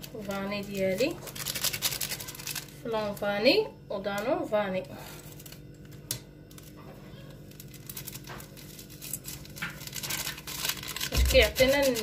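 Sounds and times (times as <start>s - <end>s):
plastic sachet crinkling: 0.0s - 3.2s, 5.1s - 12.0s.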